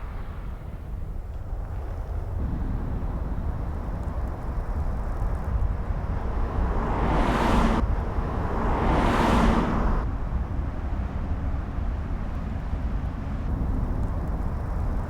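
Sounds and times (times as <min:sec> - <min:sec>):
road noise rumble: 0:00.0 - 0:15.0.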